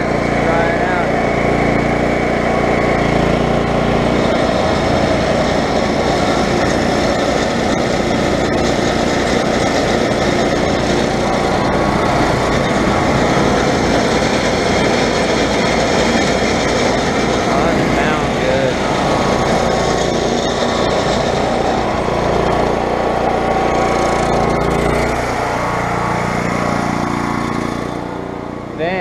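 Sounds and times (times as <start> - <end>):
generator running: 0.0 - 29.0.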